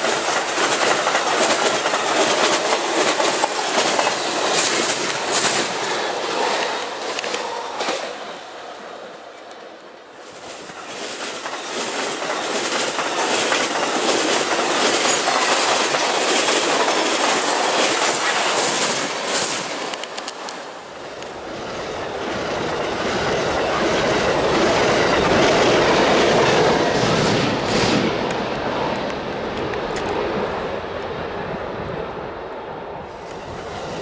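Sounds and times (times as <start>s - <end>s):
passenger train passing: 0.0s - 34.0s
train wheels on rails: 0.0s - 34.0s.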